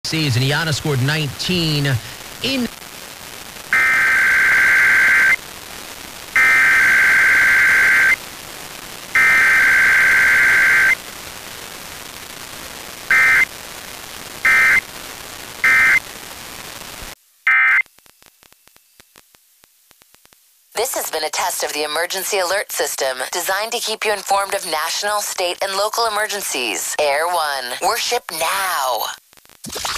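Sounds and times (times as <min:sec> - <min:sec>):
steady radio hiss: 0:00.0 - 0:29.9.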